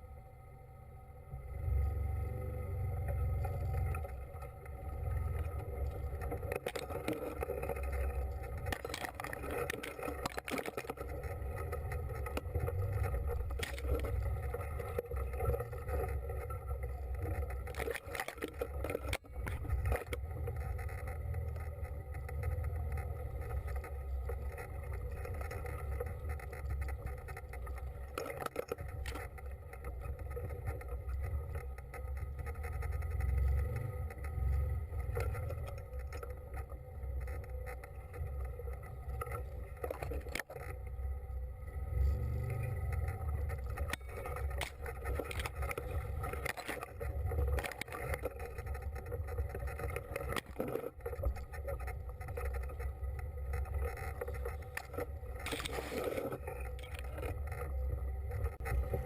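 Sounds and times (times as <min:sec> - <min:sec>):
knocks and scrapes: 0:05.2 - 0:40.8, 0:41.9 - 0:59.0.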